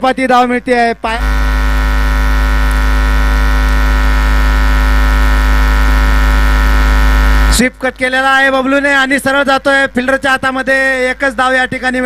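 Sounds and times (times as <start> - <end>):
electrical mains hum: 0.5 - 12.0.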